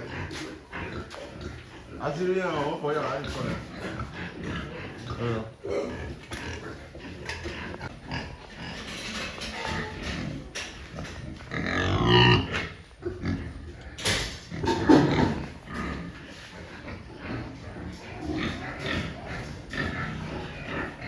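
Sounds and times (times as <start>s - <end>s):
pigs grunting and squealing: 0.0s - 21.0s.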